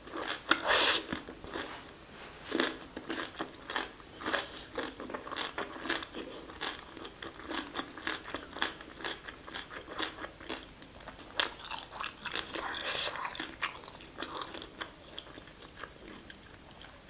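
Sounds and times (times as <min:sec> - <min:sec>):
mouth chewing rice: 0:00.0 - 0:17.0.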